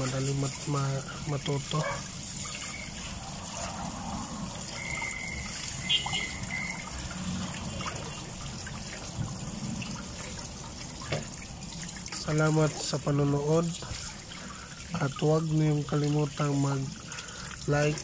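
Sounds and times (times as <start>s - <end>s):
tap water running into a pot: 0.0s - 18.0s.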